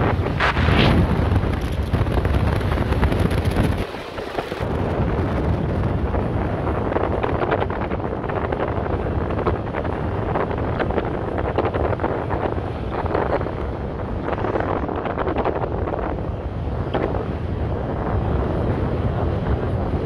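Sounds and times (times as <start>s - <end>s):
engine and tyres rumbling: 0.0s - 20.0s
wind buffeting microphone: 0.0s - 20.0s.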